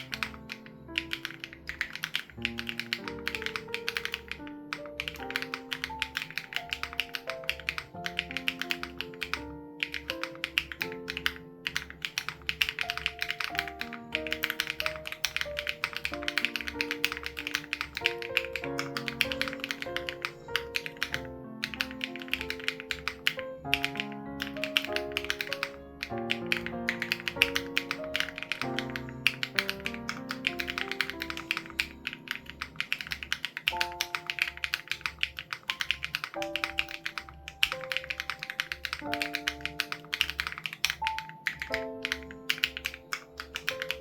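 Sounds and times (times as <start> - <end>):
fast typing on mechanical keyboard: 0.0 - 44.0
soft background music: 0.0 - 44.0.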